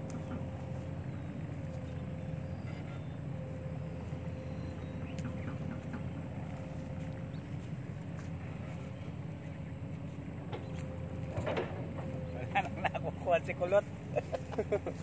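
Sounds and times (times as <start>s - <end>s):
engine low rumble: 0.0s - 15.0s
faint steady hum: 0.0s - 15.0s.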